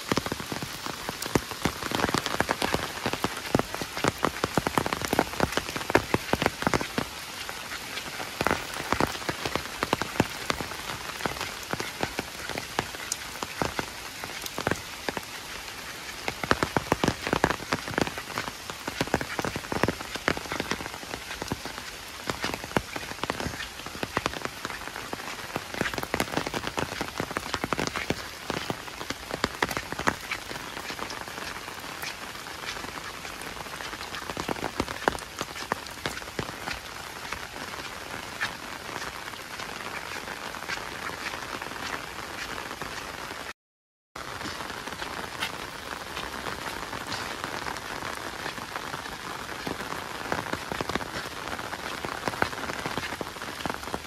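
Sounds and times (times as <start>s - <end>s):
heavy rain falling: 0.0s - 43.6s, 44.2s - 54.0s.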